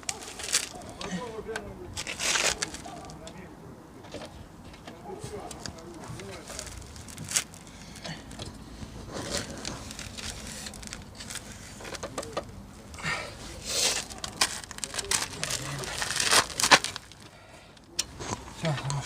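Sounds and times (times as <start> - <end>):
hands handling tools and parts: 0.0 - 3.4, 4.0 - 19.0.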